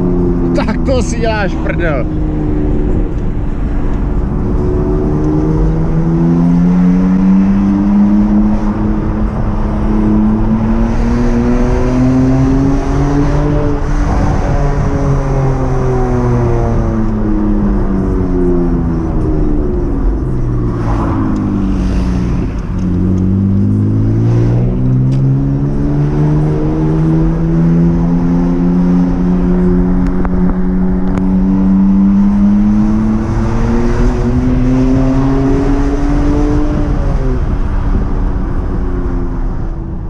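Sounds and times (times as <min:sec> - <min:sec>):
car engine revving: 0:00.0 - 0:39.5.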